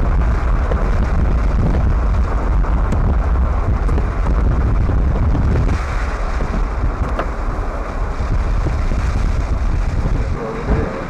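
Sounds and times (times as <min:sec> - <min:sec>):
vehicle road noise: 0:00.0 - 0:11.0
wind rushing over microphone: 0:00.0 - 0:11.0.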